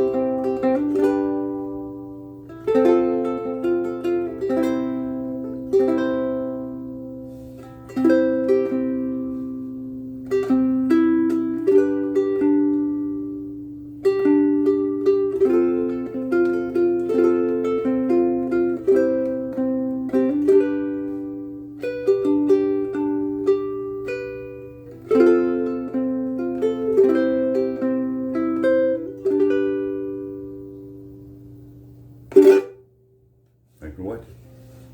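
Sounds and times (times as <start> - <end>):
ukulele playing: 0.0 - 33.0.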